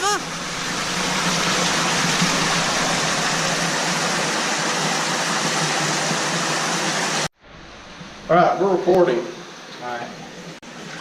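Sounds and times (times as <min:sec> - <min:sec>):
underground waterfall rushing: 0:00.0 - 0:10.8.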